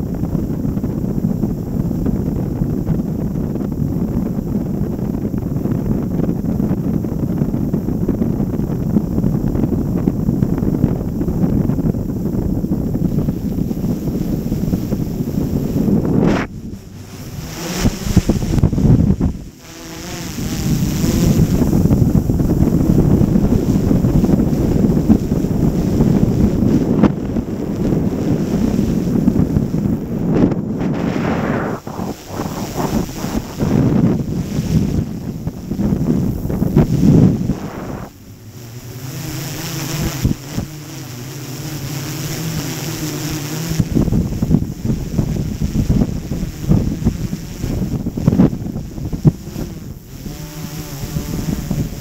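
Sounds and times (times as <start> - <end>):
wind rumble buffeting microphone: 0.0 - 52.0.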